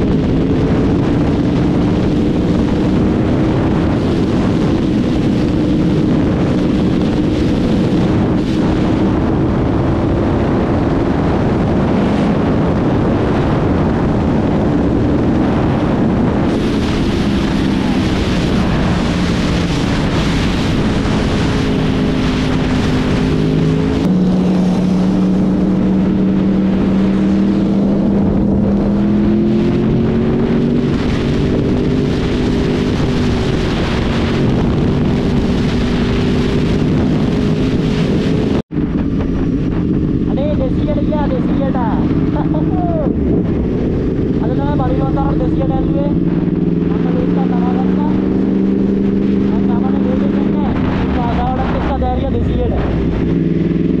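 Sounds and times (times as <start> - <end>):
motorcycle engine running: 0.0 - 54.0
wind rush on microphone: 0.0 - 54.0.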